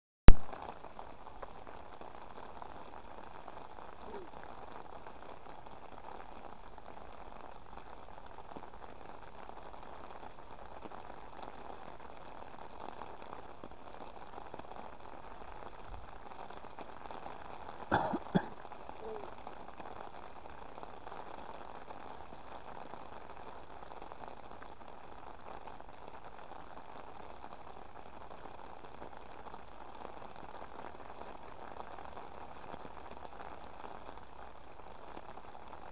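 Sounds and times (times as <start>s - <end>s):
rain falling: 0.3s - 35.9s.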